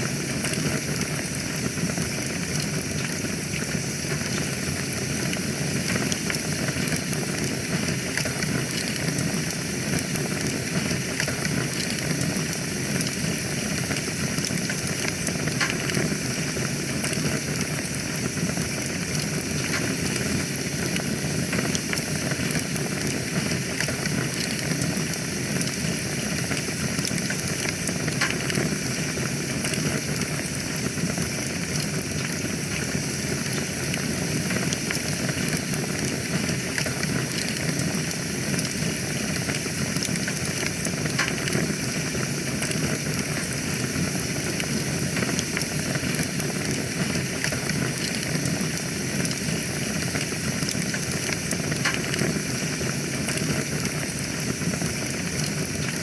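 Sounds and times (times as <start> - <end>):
fire crackles and pops: 0.0 - 56.0
wood fire hissing and rumbling: 0.0 - 56.0.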